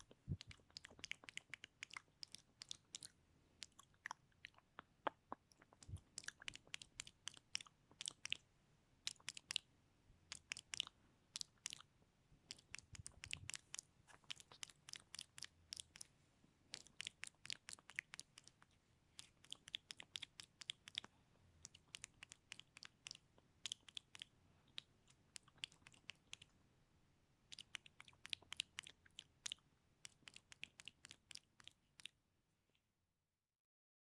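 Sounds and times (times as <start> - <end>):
tongue and lip clicks: 0.0 - 16.1, 16.7 - 26.6, 27.4 - 32.9.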